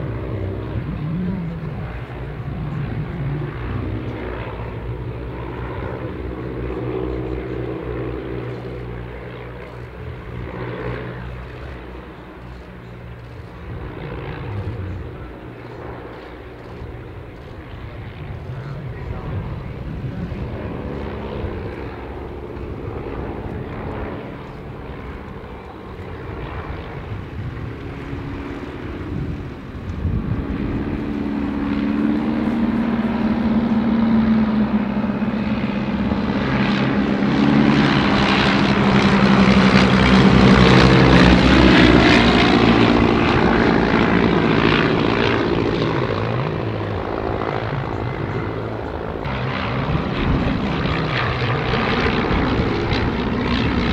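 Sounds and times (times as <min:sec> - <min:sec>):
propeller planes droning past: 0:00.0 - 0:53.9.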